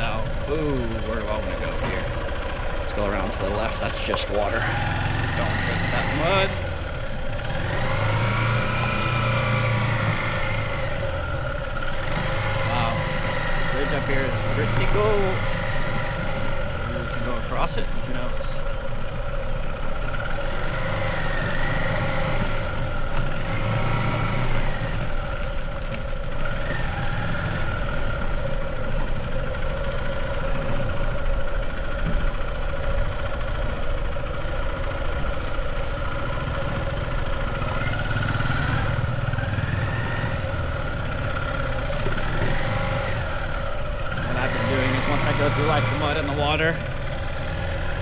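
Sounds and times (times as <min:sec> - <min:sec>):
motorbike engine running: 0:00.0 - 0:48.0.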